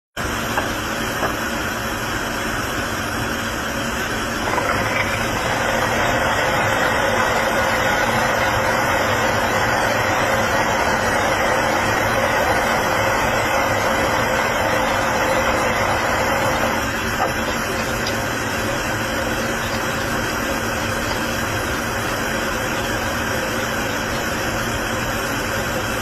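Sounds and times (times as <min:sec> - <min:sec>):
machining centre running: 0:00.2 - 0:26.0.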